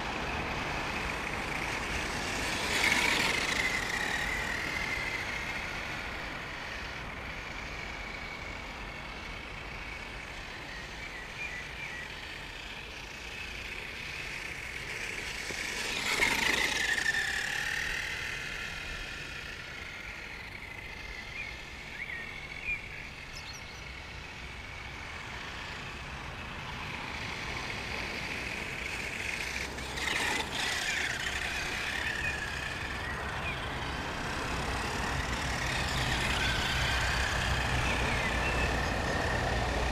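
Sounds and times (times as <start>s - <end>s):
toy truck motor whining: 0.0s - 39.9s.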